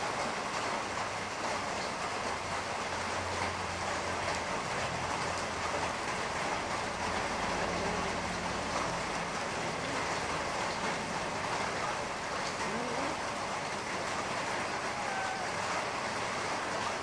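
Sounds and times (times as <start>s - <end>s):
low engine-like hum: 0.0s - 17.0s
rumble and hiss: 0.0s - 17.0s.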